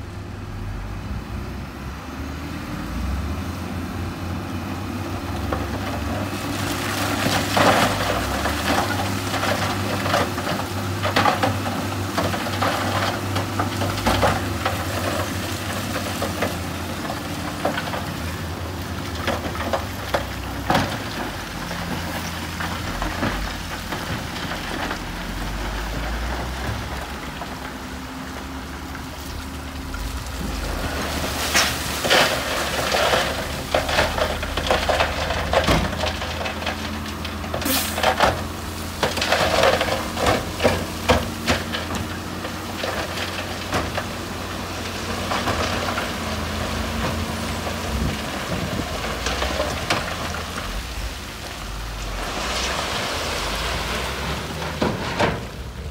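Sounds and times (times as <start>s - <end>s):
heavy machine engine: 0.0s - 55.9s
rocks and gravel crunching: 5.2s - 55.9s.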